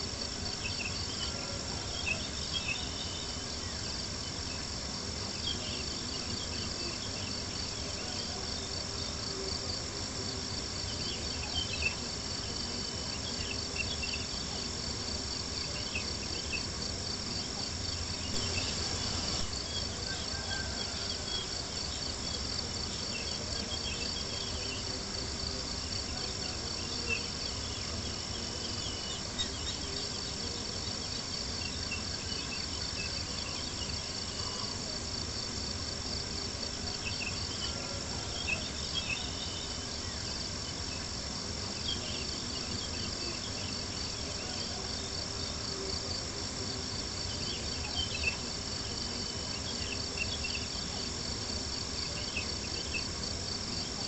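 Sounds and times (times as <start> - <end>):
night insects trilling: 0.0 - 54.0.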